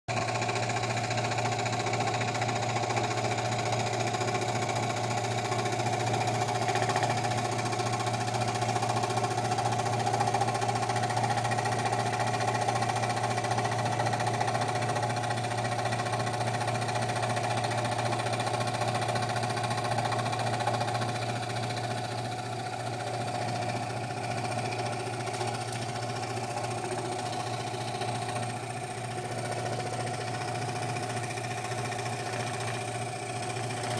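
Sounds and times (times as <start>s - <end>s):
scroll saw running: 0.2s - 33.9s.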